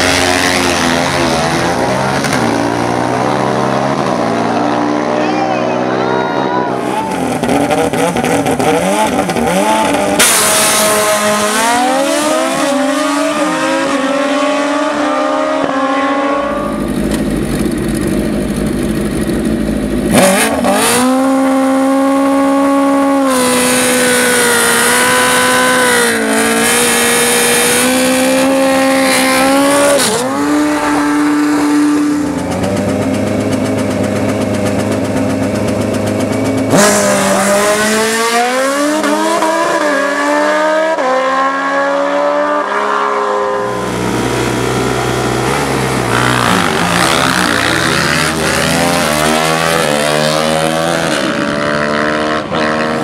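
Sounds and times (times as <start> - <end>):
racing engines revving hard: 0.0 - 17.0, 20.0 - 53.0.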